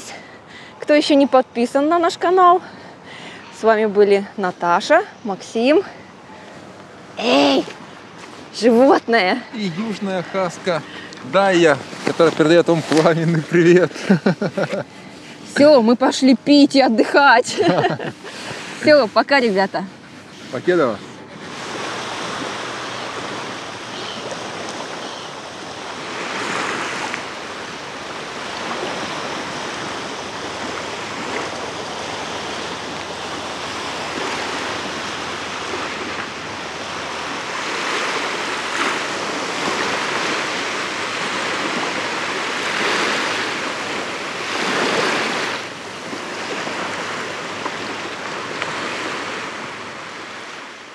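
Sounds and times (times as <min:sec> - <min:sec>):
small waves washing onto beach: 0:00.0 - 0:50.9.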